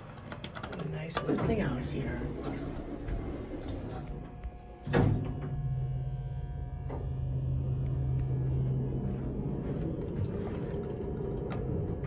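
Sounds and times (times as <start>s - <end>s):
elevator pump motor humming: 0.0s - 12.0s.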